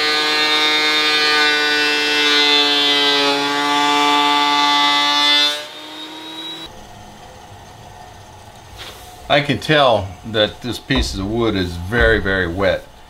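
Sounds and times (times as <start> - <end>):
thickness planer whining: 0.0 - 13.0.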